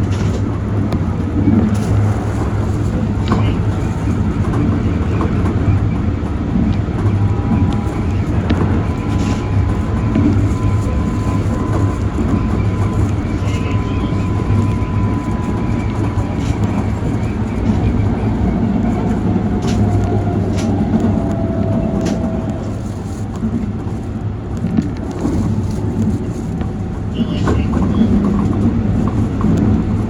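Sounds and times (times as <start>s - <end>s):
electric train rumble: 0.0s - 30.0s
sharp train clacks: 0.0s - 30.0s.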